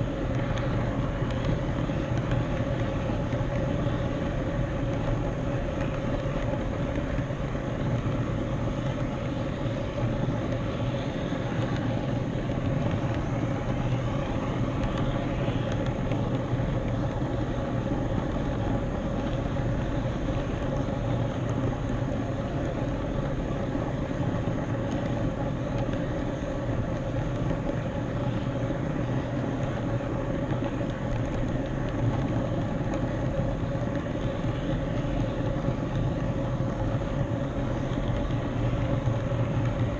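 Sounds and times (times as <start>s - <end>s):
model train wheels rolling on rails: 0.0s - 39.9s
steady hum: 0.0s - 39.9s.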